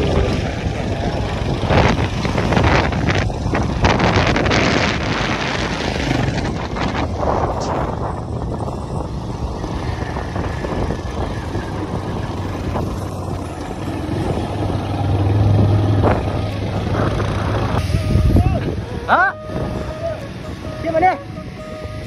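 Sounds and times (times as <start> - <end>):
motorcycle engine running: 0.0 - 22.0
road noise: 0.0 - 22.0
wind noise: 0.0 - 22.0.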